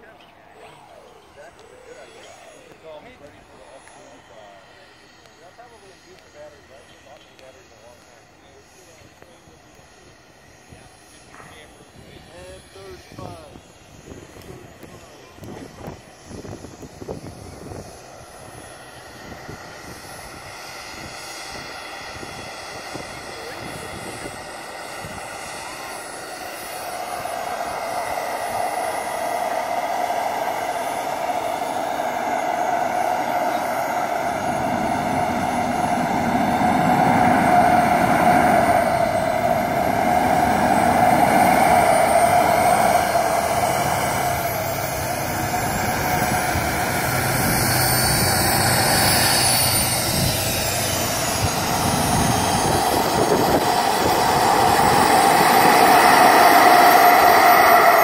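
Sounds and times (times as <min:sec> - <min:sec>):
high whine gliding in pitch: 0:00.0 - 0:58.0
jet turbine engine running: 0:00.0 - 0:58.0.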